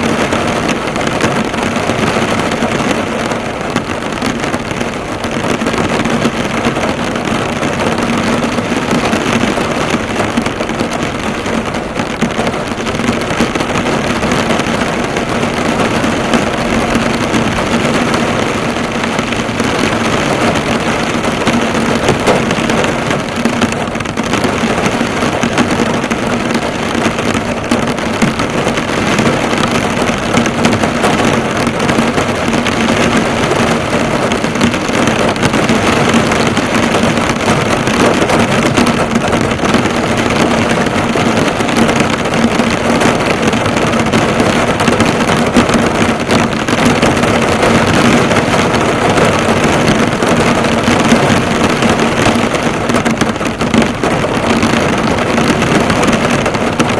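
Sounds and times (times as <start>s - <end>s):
heavy rain on a car: 0.0s - 56.9s.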